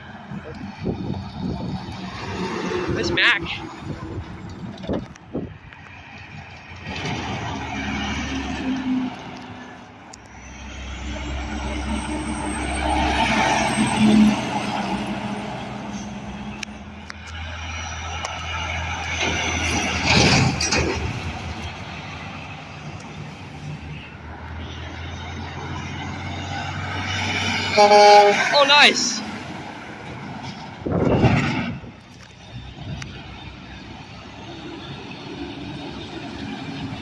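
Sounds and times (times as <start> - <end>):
heavy trucks passing: 0.0 - 37.0.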